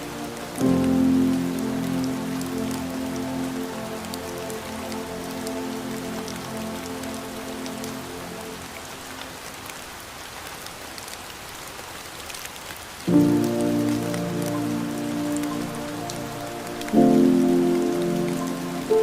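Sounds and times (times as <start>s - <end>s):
slow ambient music: 0.0s - 9.6s, 13.1s - 19.0s
rain drop ticks: 0.0s - 19.0s
rain patter: 0.0s - 19.0s.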